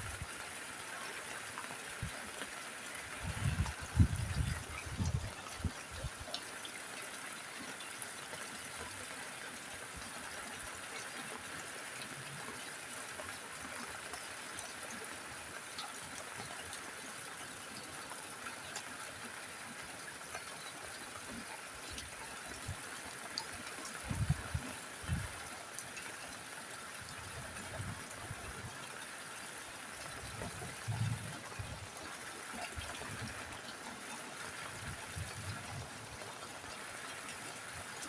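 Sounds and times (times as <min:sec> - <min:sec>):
rain on a roof: 0:00.0 - 0:38.0.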